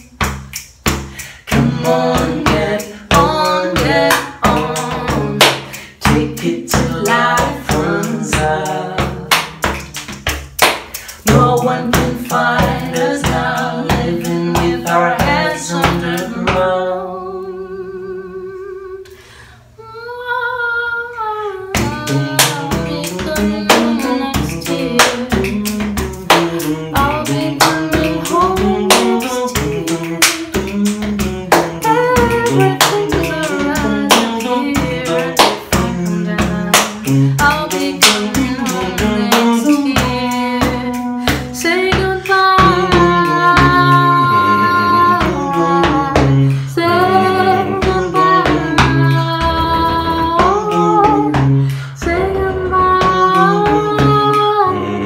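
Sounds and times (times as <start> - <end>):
hand claps and body percussion: 0.0 - 16.6, 21.8 - 44.1, 47.6 - 54.6
two voices singing a duet: 0.0 - 55.0.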